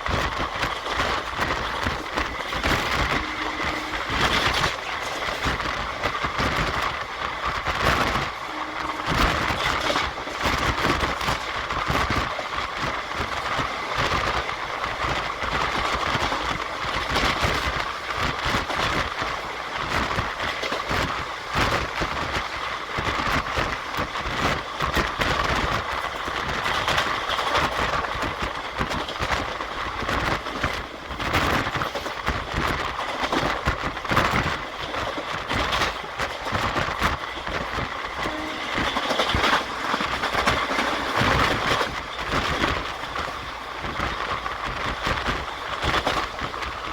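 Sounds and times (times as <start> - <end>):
train rumbling at speed: 0.0 - 46.9
wheels clattering on track: 0.0 - 46.9.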